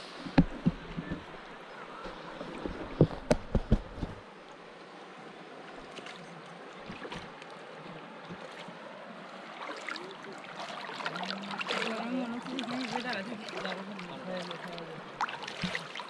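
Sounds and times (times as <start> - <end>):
stream flowing: 0.0 - 16.0.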